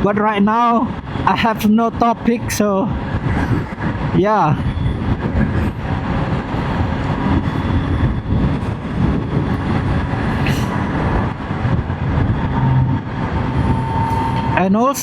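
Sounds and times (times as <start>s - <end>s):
wind rush and riding noise: 0.0s - 15.0s.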